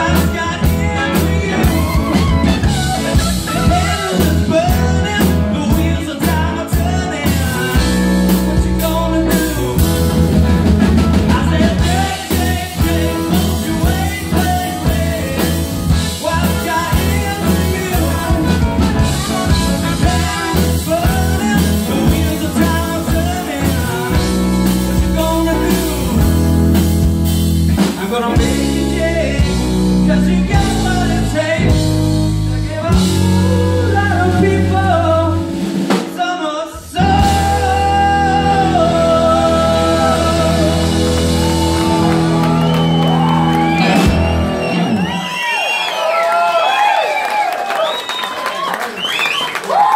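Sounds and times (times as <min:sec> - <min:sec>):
man singing: 0:00.0 - 0:42.7
live rock band playing: 0:00.0 - 0:45.9.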